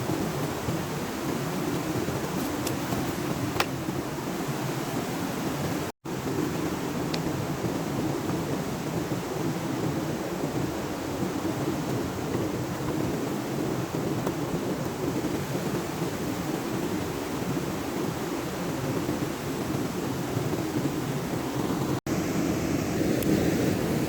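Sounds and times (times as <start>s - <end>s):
waterfall and stream roaring: 0.0s - 24.0s.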